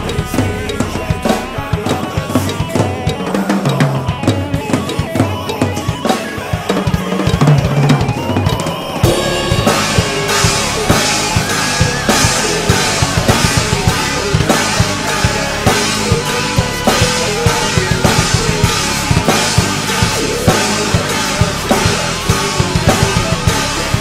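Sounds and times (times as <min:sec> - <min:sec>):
instrumental rap beat: 0:00.0 - 0:24.0.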